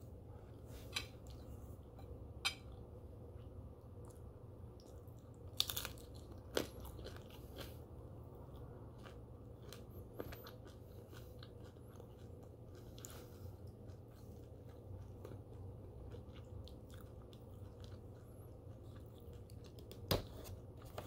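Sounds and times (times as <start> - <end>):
crunchy bacon chewing: 4.0 - 21.0.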